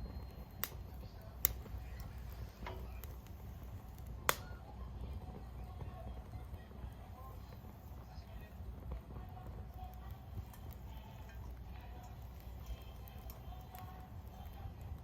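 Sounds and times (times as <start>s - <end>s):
fire popping: 0.0s - 15.0s
low steady rumble: 0.0s - 15.0s
wood fire crackling: 0.0s - 15.0s.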